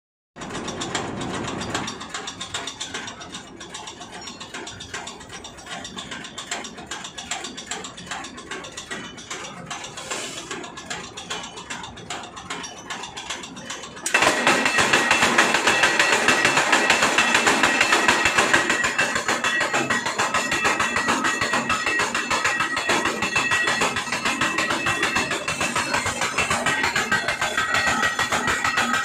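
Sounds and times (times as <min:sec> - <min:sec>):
press machine clattering: 0:00.4 - 0:29.0.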